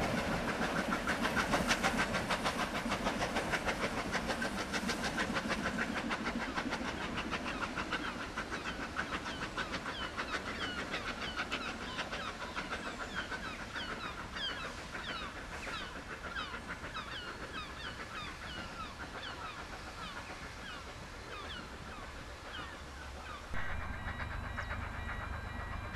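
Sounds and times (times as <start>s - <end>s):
steam locomotive chuffing: 0.0s - 25.9s.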